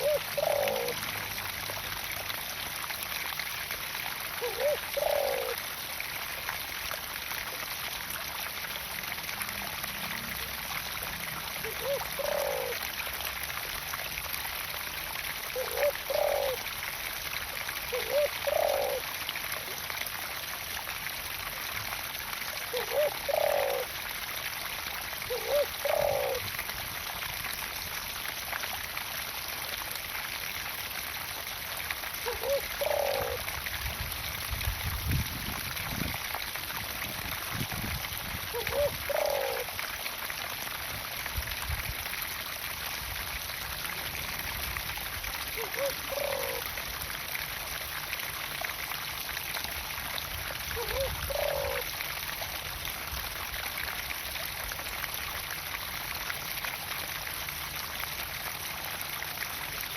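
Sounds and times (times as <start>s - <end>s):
water pouring into a pond: 0.0s - 59.9s.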